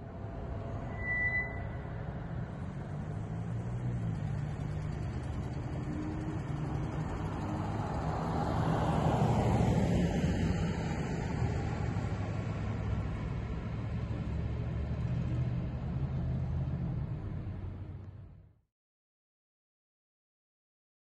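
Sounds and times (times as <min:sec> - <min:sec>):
traffic rumble: 0:00.0 - 0:18.5.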